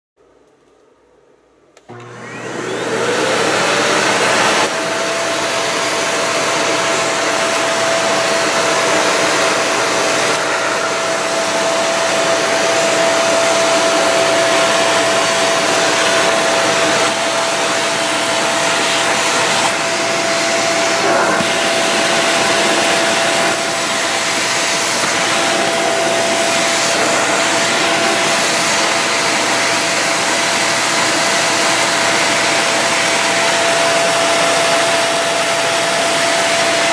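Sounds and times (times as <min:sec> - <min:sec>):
vacuum cleaner running: 0:01.8 - 0:36.9.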